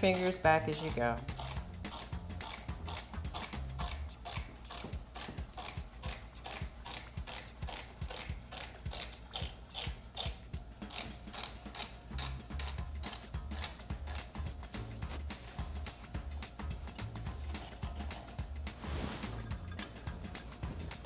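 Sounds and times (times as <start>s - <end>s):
knife chopping celery on board: 0.1s - 18.3s.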